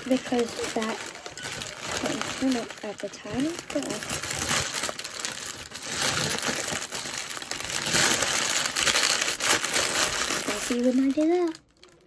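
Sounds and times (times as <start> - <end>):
food packaging crinkling: 0.0 - 12.0.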